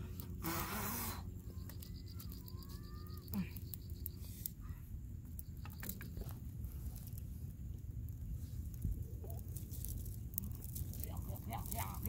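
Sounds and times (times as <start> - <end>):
campfire crackling: 0.0 - 12.0
sharp snaps and pops: 0.1 - 12.0.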